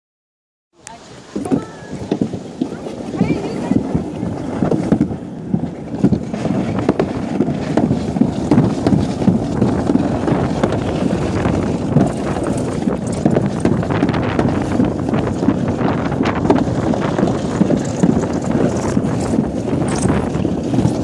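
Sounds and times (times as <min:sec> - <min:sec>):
sled rumbling down chute: 0:00.8 - 0:21.0
wind buffeting microphone: 0:00.8 - 0:21.0.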